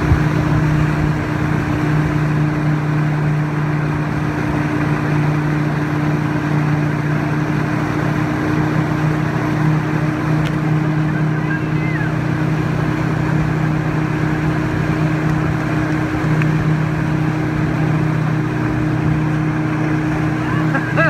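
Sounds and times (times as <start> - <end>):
boat engine humming: 0.0 - 21.0
wake water rushing: 0.0 - 21.0.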